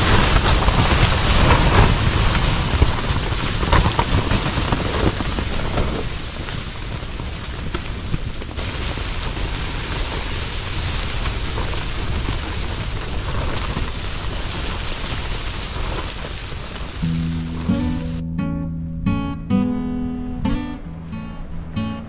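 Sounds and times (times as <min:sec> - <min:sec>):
strong wind against tent: 0:00.0 - 0:18.2
tent fabric flapping: 0:00.0 - 0:18.2.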